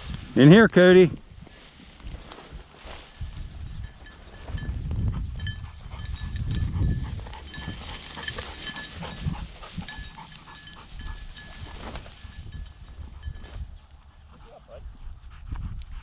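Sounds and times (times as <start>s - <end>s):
wind rumble on microphone: 0.0s - 0.4s, 1.1s - 16.0s
rustling through field cover: 0.0s - 14.6s.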